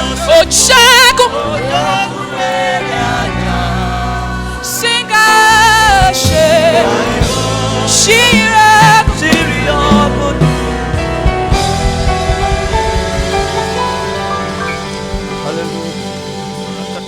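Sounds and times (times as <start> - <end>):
person singing with vibrato: 0.0 - 15.4
instrumental accompaniment: 0.0 - 17.0.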